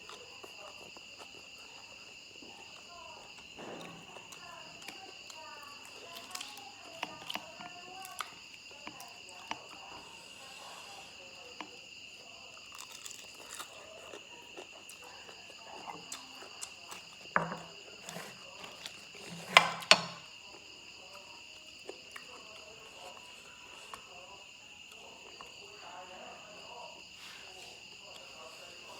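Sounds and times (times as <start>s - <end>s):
crunching and chewing food: 0.0s - 28.9s
insects chirping: 0.0s - 28.9s.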